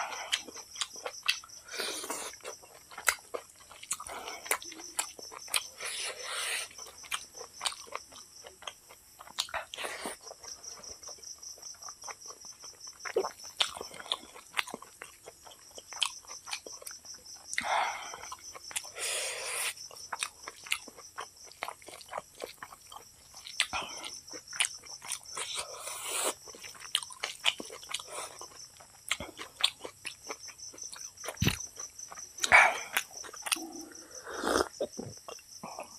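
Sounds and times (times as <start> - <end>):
wet chewing and lip smacks: 0.2 - 19.0, 19.6 - 35.6.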